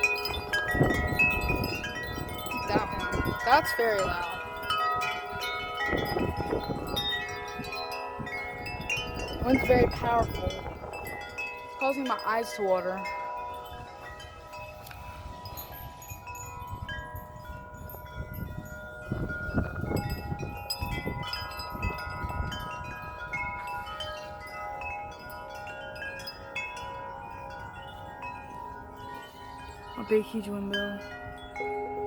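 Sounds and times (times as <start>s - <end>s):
wind chimes ringing: 0.0s - 32.0s
wind rumbling on microphone: 0.0s - 32.0s.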